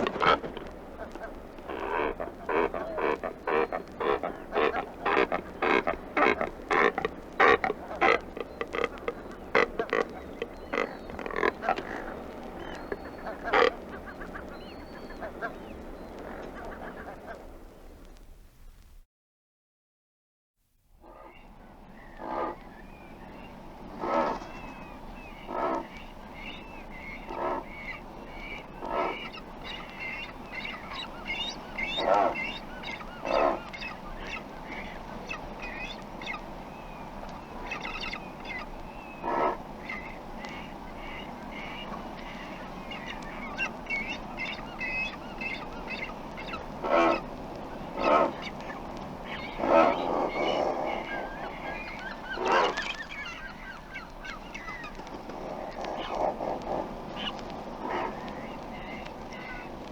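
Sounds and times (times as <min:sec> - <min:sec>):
low-pitched bird calls: 0:00.0 - 0:17.3, 0:21.0 - 0:59.8.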